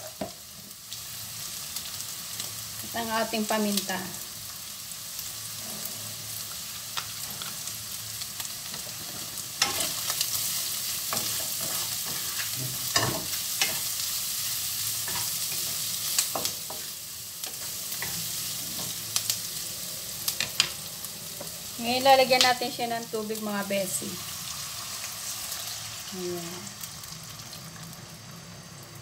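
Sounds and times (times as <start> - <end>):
chicken sizzling in a wok: 0.0 - 29.0.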